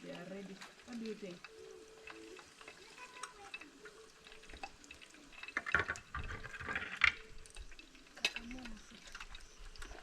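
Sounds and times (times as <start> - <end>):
chicken frying: 0.0 - 10.0.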